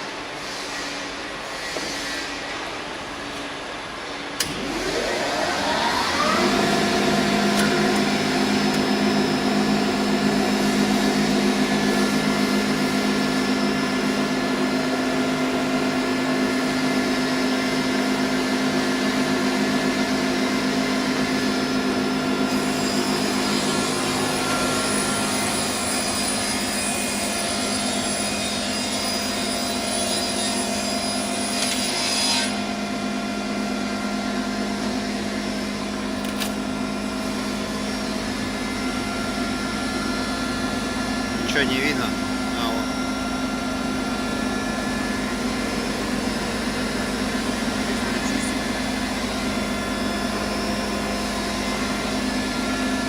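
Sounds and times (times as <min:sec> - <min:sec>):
rip saw motor humming and whining: 0:04.4 - 0:53.0.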